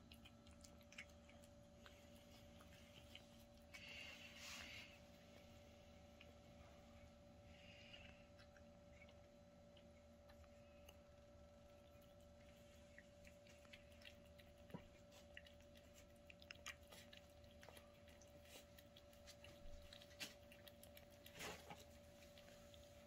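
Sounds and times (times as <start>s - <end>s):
cat chewing and licking: 0.0s - 23.0s
faint steady hum: 0.0s - 23.0s.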